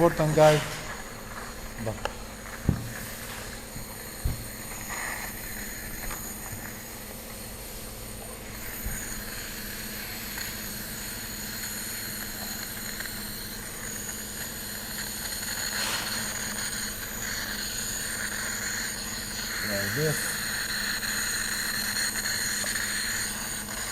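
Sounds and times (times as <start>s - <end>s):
machine humming and whining: 0.0s - 23.9s.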